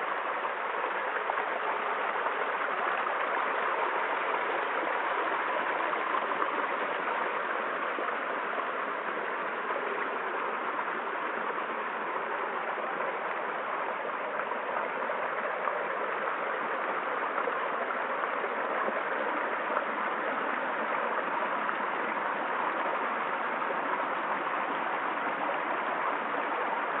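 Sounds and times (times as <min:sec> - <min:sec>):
stream water splashing over rocks: 0:00.0 - 0:27.0.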